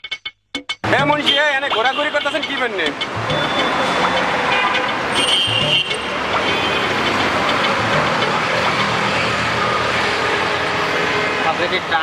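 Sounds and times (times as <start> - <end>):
road traffic noise: 0.8 - 12.0.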